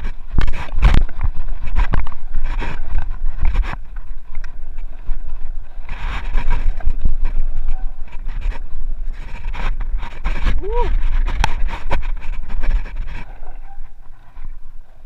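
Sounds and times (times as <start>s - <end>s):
bike rattling over bumps: 0.0s - 15.0s
wind buffeting microphone: 0.0s - 15.0s.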